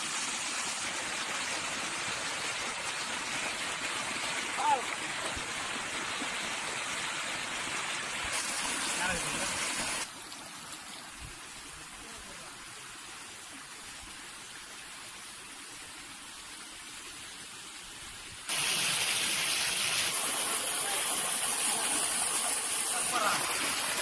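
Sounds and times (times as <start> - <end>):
water rushing over rocks: 0.0 - 16.0, 17.1 - 24.0.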